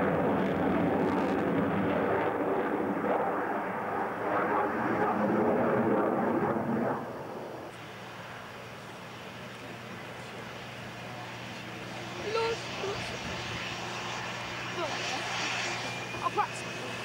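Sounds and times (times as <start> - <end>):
jet fighter engines rushing: 0.0 - 17.0.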